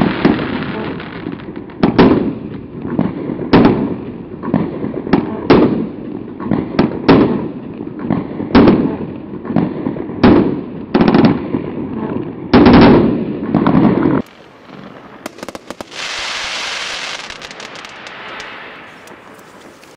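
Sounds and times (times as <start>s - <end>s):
firework bangs with low rumble: 0.0s - 19.9s
firework crackles: 0.0s - 19.9s.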